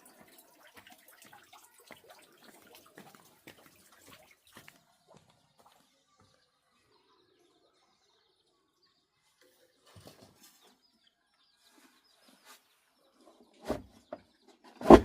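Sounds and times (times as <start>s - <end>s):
faint bird chirps: 0.0s - 14.8s.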